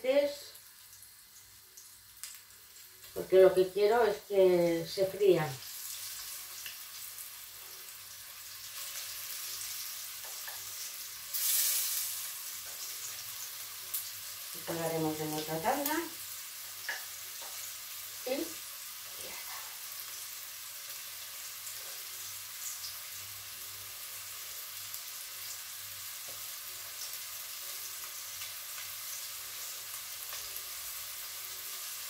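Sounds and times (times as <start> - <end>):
pork frying in hot oil: 0.0 - 32.0.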